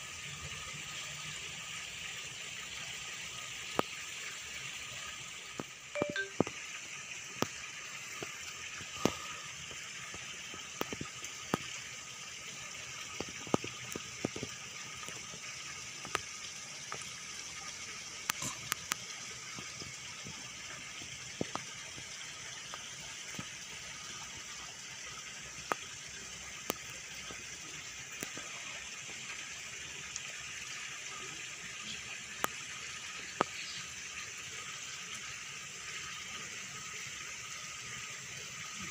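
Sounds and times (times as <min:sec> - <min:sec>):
water splashing into pond: 0:00.0 - 0:38.9.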